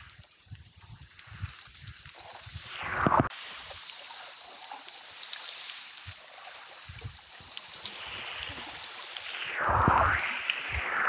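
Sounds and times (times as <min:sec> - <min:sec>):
small scattered clicks: 0:00.0 - 0:11.0
underwater hiss: 0:00.0 - 0:11.0.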